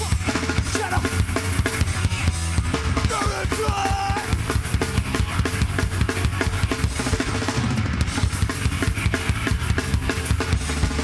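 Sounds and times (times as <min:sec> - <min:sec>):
heavy rock band playing: 0:00.0 - 0:11.0.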